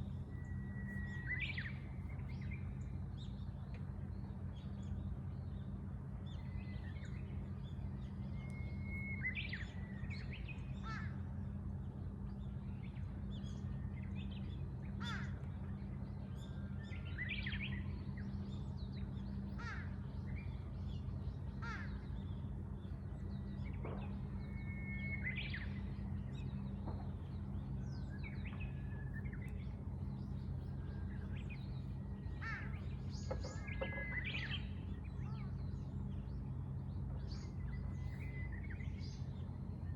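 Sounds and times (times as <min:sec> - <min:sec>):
birds calling and chirping: 0:00.0 - 0:39.9
steady low hum: 0:00.0 - 0:39.9.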